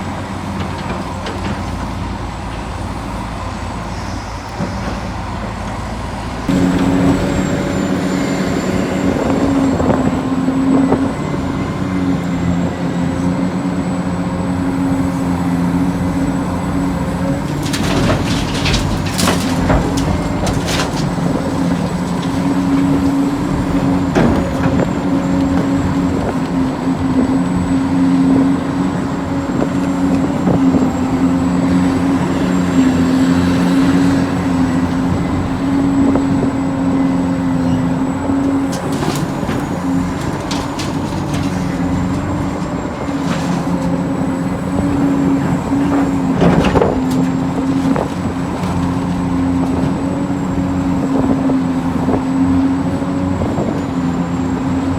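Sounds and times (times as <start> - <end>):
electric motors humming and whining: 6.4 - 54.9.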